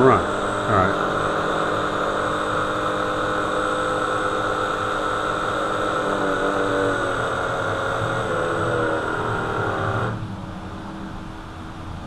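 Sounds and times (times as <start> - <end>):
electric motor humming: 0.0 - 10.2.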